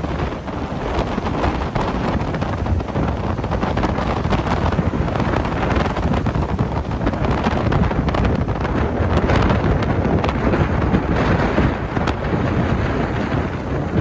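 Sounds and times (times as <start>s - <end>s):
strong wind buffeting microphone: 0.0s - 14.0s
waves breaking on shore: 0.0s - 14.0s.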